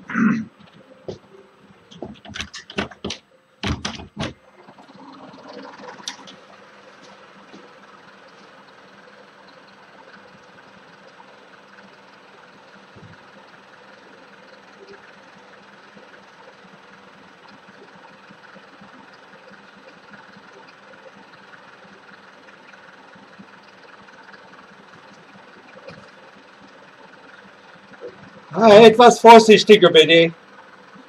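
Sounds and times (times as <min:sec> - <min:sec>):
van engine idling: 0:00.0 - 0:31.0.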